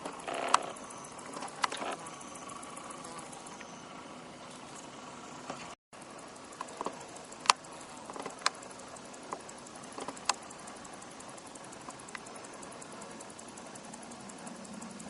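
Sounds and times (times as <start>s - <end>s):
grasshopper clicks and ticks: 0.0s - 3.8s, 4.4s - 15.0s.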